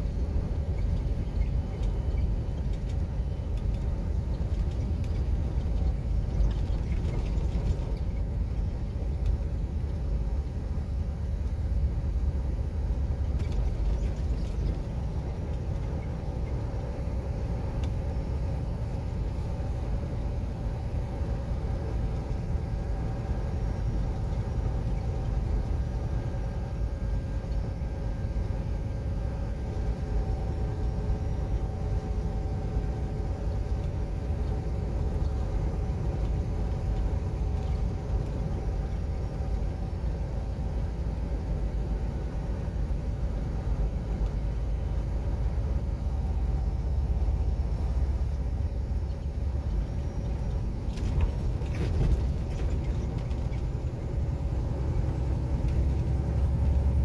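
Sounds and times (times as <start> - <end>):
faint steady whine: 0.0 - 57.0
truck engine and tyre rumble: 0.0 - 57.0.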